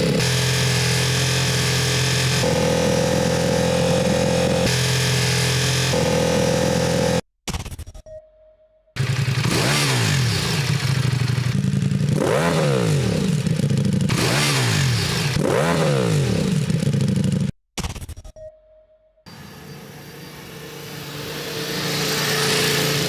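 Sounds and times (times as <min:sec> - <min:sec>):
motorcycle engine revving: 0:00.0 - 0:07.3, 0:09.0 - 0:17.5, 0:19.3 - 0:23.0.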